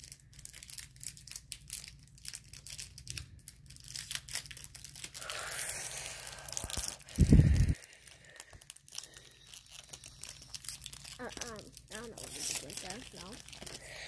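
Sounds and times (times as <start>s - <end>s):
foil wrapper crinkling: 0.0s - 14.0s
foil wrapper tearing: 0.0s - 14.0s.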